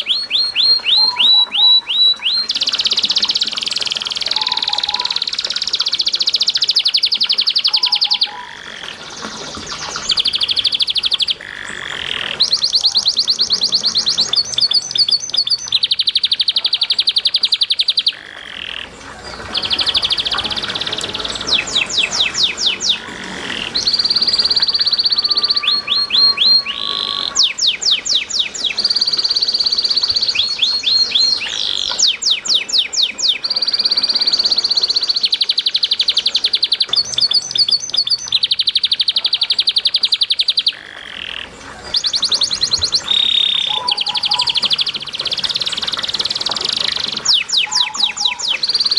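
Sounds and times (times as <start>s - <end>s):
canary singing trills: 0.0s - 48.9s
faint water trickling: 0.0s - 48.9s.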